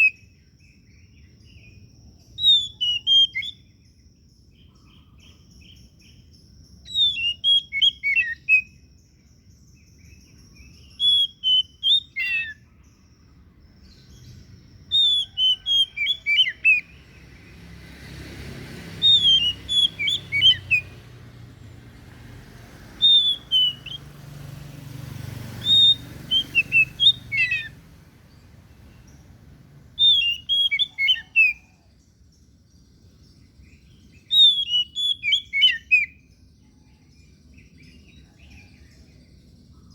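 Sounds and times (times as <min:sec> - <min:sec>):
bird singing whistled notes: 0:00.0 - 0:18.1, 0:18.8 - 0:39.9.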